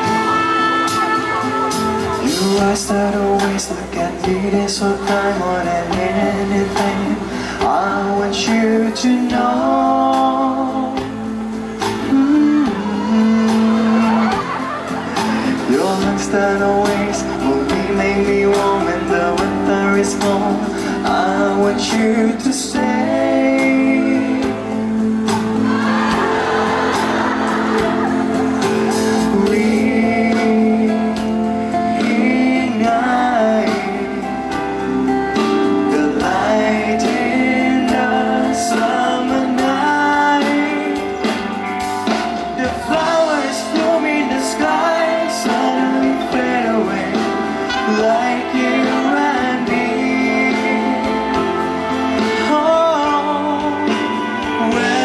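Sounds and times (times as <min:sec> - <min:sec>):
man singing: 0:00.0 - 0:26.8, 0:27.8 - 0:55.0
electric guitar: 0:00.0 - 0:55.0
live band music: 0:00.0 - 0:55.0.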